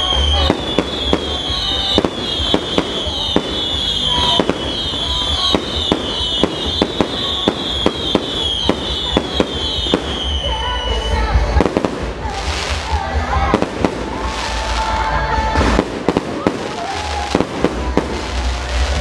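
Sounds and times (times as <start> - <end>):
fireworks banging: 0.0 - 19.0
fireworks whistling: 0.0 - 19.0.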